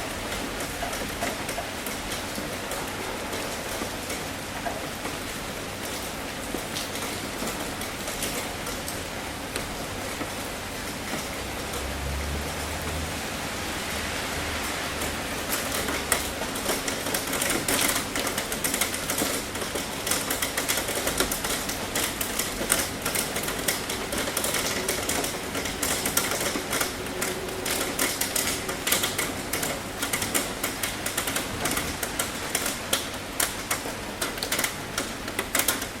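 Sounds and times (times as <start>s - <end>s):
raindrops ticking on tin roof: 0.0s - 36.0s
steady rain hiss: 0.0s - 36.0s.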